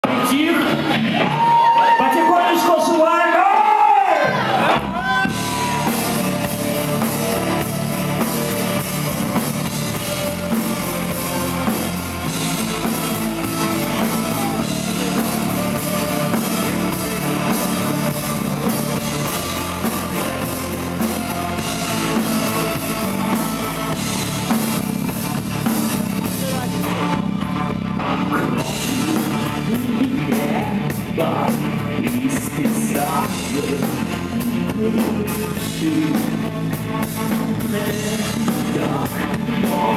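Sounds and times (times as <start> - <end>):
live rock band playing: 0.0 - 3.0, 4.2 - 39.9.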